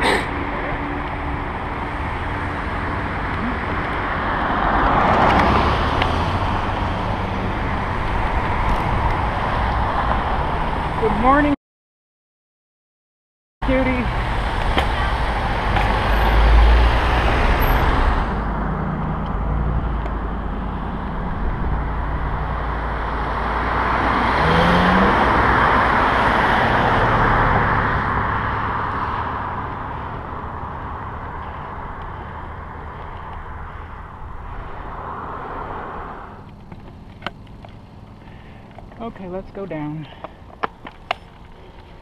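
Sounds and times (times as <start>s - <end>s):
car passing: 0.0s - 11.6s, 13.7s - 42.0s
road noise: 0.0s - 11.6s, 13.6s - 42.0s.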